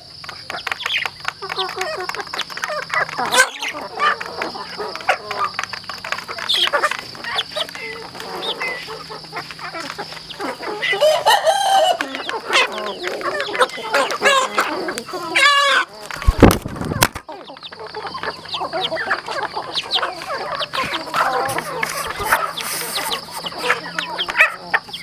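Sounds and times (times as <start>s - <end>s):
beaks pecking plastic trough: 0.0s - 25.0s
chicks clucking and calling: 0.0s - 25.0s.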